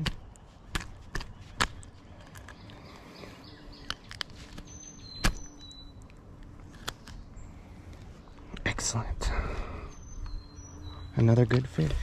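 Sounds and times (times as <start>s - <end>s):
quiet outdoor background: 0.0s - 12.0s.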